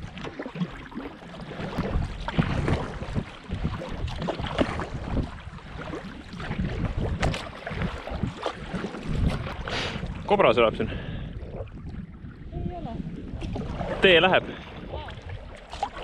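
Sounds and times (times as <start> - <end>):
paddle splashing in water: 0.0 - 16.0
wind on microphone: 0.0 - 16.0.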